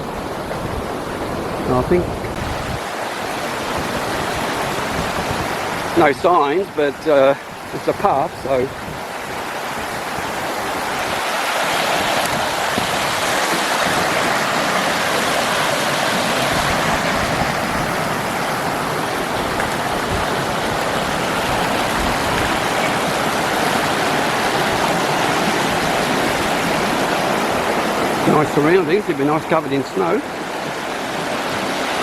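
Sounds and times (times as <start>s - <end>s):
forest stream rushing: 0.0s - 32.0s.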